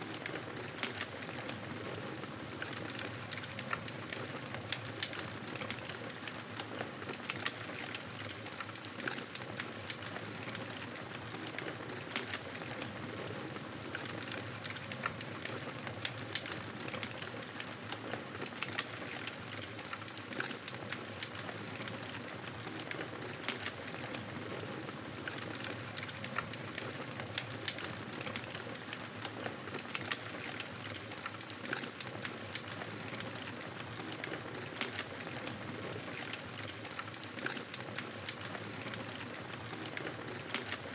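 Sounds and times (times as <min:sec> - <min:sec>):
fire crackling: 0:00.0 - 0:40.9.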